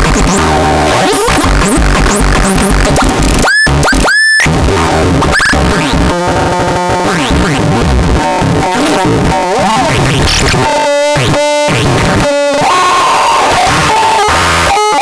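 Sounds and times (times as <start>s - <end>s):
glitchy synthesizer noise: 0.0s - 15.0s.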